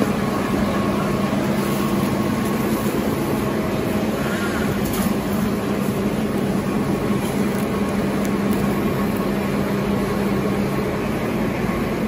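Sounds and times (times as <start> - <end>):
production line machine hum: 0.0 - 12.0.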